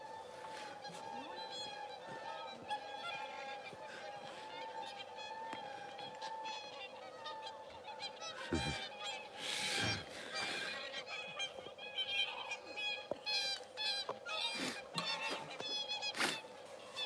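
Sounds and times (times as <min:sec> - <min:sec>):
swans honking: 0:00.0 - 0:17.0.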